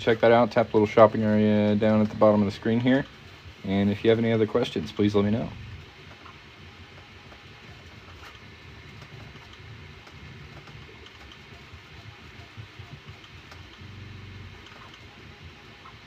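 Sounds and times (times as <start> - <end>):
printer motors humming: 0.0 - 16.0.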